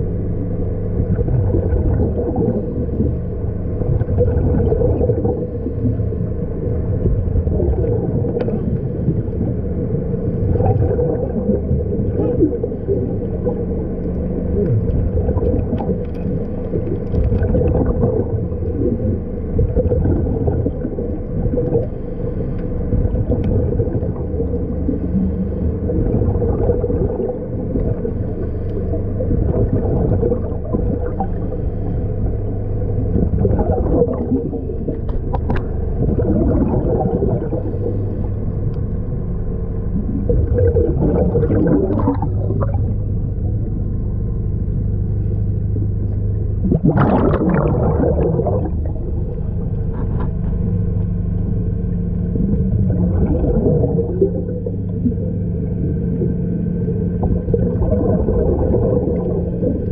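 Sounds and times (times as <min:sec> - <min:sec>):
low underwater hum: 0:00.0 - 0:59.9
scuba bubbles gurgling: 0:00.0 - 0:59.9.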